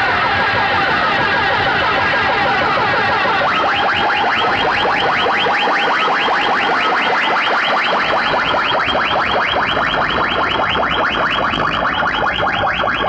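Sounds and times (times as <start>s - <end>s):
loud electronic rising tones: 0.0s - 13.0s.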